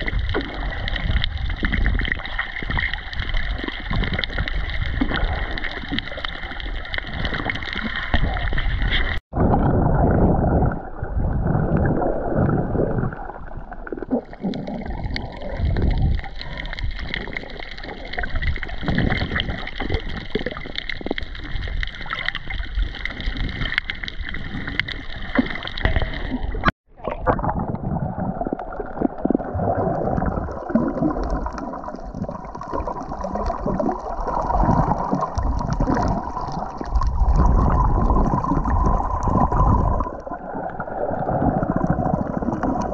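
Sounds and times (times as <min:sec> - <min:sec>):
water gurgling and sloshing: 0:00.0 - 0:42.9.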